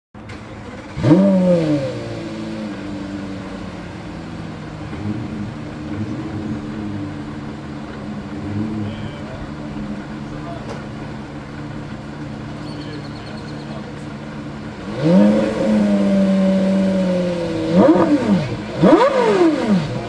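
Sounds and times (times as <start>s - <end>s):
car engine idling: 0.2s - 20.0s
car engine starting and revving: 0.2s - 20.0s.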